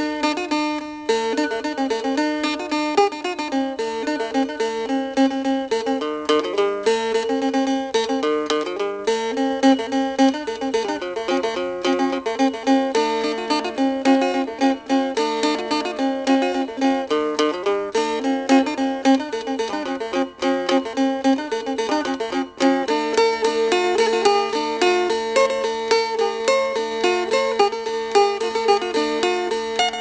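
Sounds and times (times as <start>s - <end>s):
plucked string instrument music: 0.0s - 30.0s.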